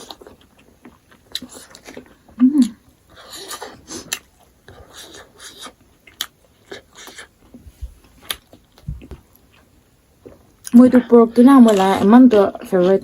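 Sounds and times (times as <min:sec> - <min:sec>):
person chewing: 0:00.0 - 0:10.8.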